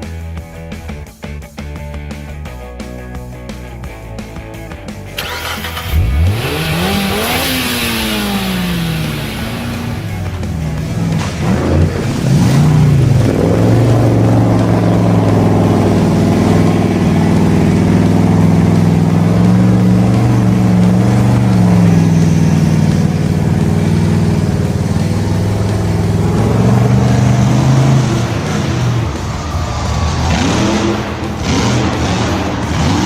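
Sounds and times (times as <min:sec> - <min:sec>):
large engine running hard: 0:02.5 - 0:33.0.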